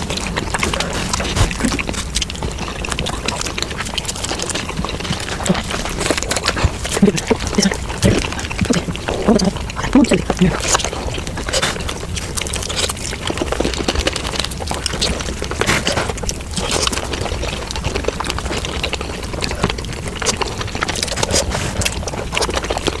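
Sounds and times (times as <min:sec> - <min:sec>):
fast chewing clicks and mouth smacks: 0:00.0 - 0:23.0.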